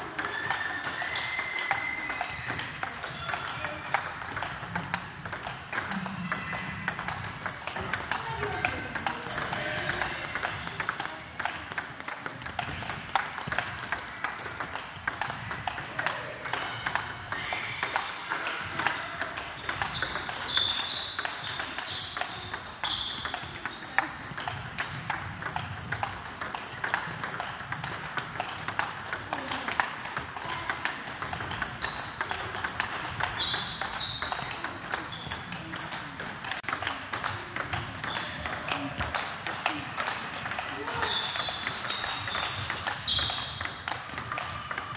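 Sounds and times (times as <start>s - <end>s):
table tennis balls clicking: 0.0s - 44.9s.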